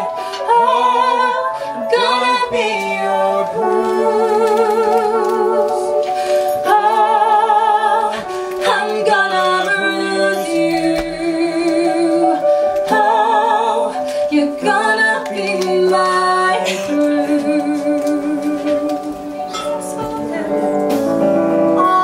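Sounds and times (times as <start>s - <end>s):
woman and man singing duet: 0.0s - 21.0s
keyboard accompaniment: 0.0s - 22.0s.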